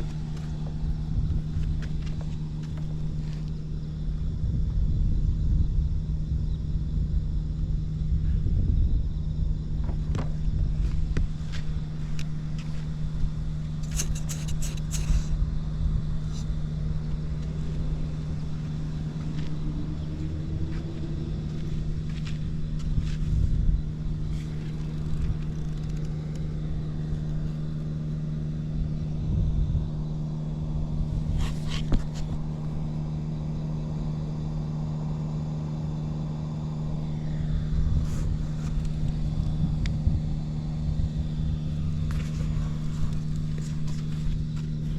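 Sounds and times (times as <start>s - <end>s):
motorcycle engine idling: 0.0s - 4.6s, 9.5s - 44.9s.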